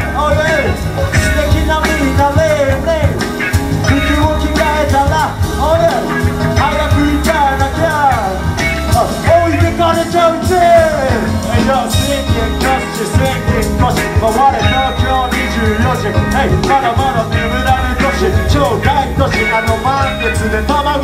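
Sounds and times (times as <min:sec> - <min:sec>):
drum kit: 0:00.0 - 0:21.0
electric bass: 0:00.0 - 0:21.0
keyboard: 0:00.0 - 0:21.0
rapping over a beat: 0:00.0 - 0:21.0.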